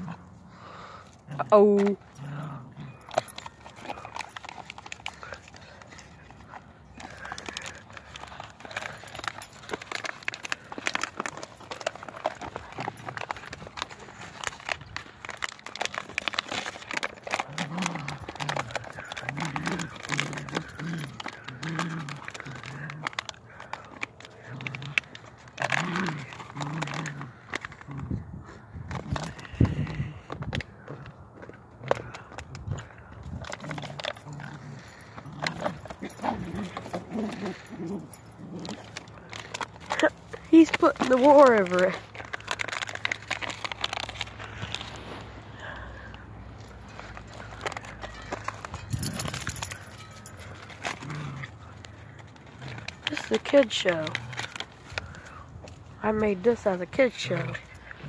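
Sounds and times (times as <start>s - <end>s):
dog growling: 0.0s - 44.8s, 45.5s - 58.0s
plastic bottle crinkling: 0.0s - 58.0s.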